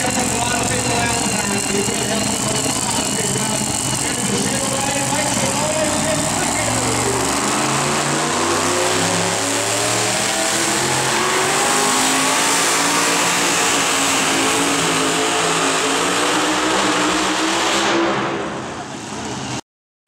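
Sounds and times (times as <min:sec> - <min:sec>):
supercharged engine at full throttle: 0:00.0 - 0:19.6.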